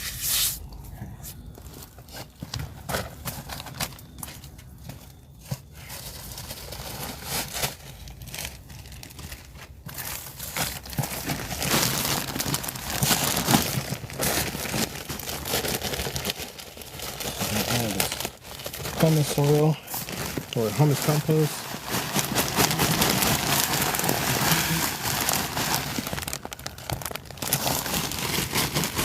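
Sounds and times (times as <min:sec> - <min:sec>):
plastic bag crinkling: 0:01.4 - 0:29.0.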